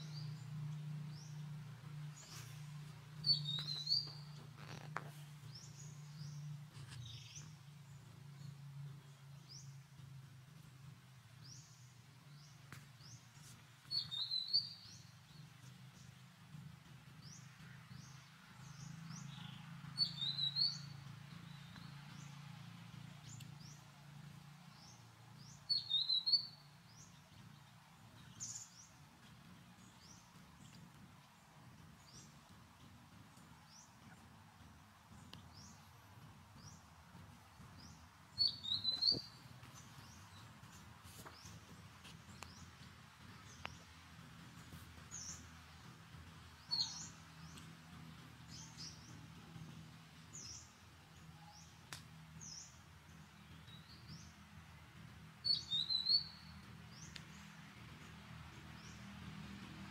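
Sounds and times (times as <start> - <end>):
small bird chirping: 0.0 - 10.1, 10.8 - 36.0, 36.6 - 54.4, 55.4 - 58.0.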